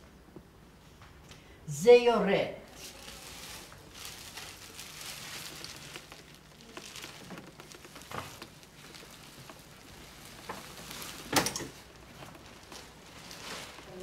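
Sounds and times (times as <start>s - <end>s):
plastic bags rustling: 2.7s - 14.0s.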